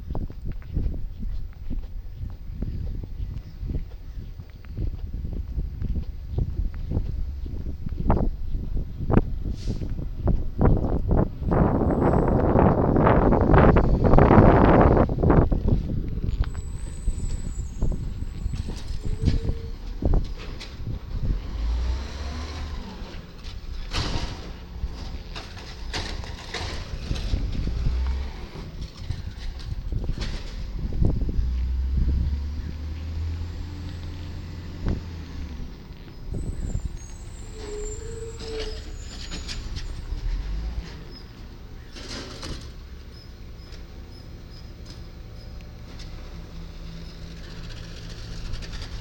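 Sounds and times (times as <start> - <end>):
garbage truck engine rumble: 0.0 - 49.0.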